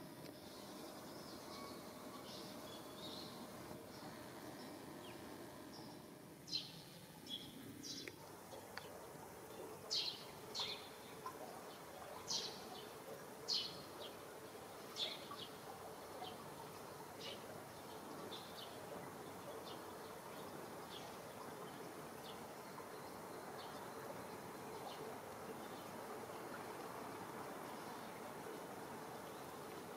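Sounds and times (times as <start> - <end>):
faint steady hum: 0.0 - 29.9
small birds chirping: 0.3 - 26.0.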